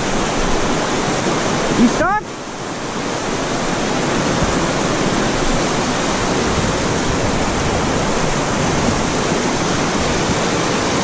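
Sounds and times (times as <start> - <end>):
river water over rocks: 0.0 - 11.0.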